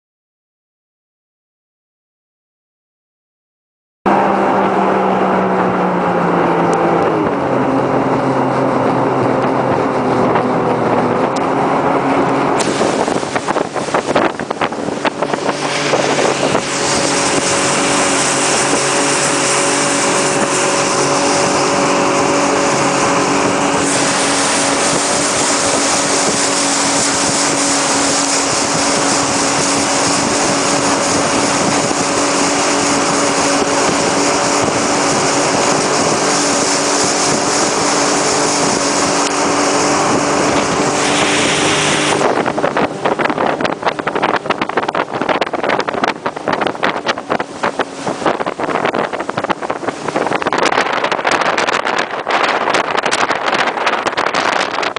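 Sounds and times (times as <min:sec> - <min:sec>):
motorboat engine running: 0:04.1 - 0:54.9
rush of wind and water: 0:04.1 - 0:54.9
water buffeting and splashing: 0:04.1 - 0:54.9.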